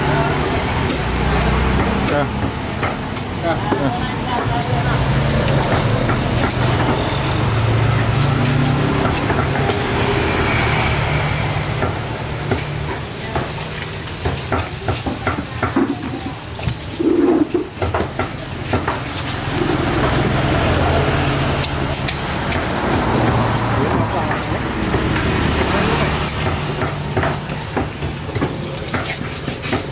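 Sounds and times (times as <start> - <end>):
market noise hum and hiss: 0.0 - 29.9.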